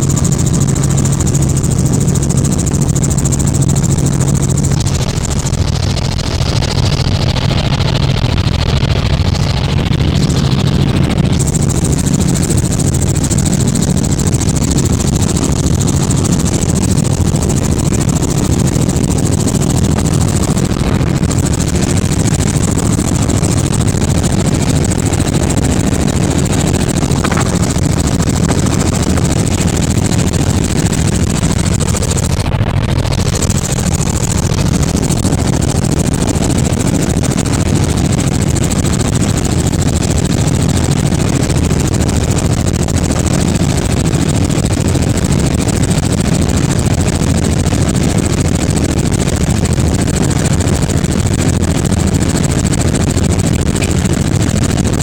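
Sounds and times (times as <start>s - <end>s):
helicopter rotor drone: 0.0s - 55.0s.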